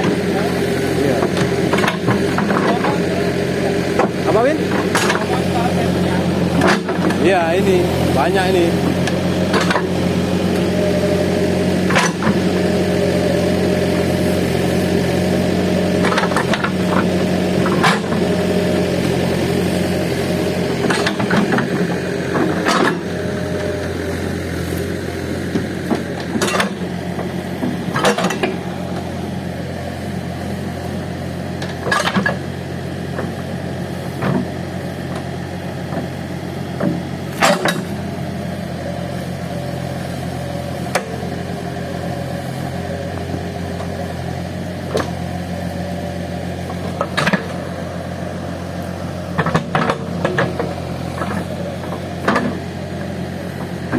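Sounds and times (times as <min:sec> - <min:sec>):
heavy machine diesel engine: 0:00.0 - 0:53.9.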